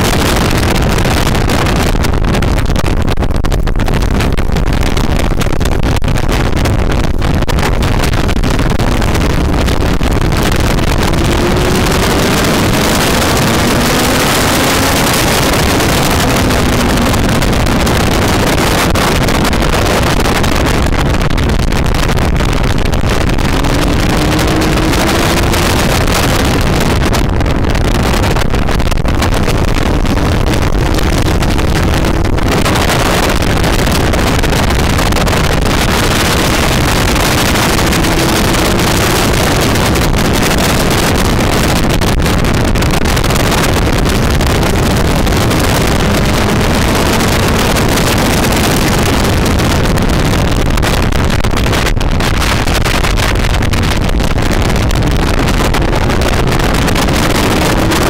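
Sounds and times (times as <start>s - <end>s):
motorcycle engine at speed: 0.0s - 58.0s
wind buffeting on microphone: 0.0s - 58.0s.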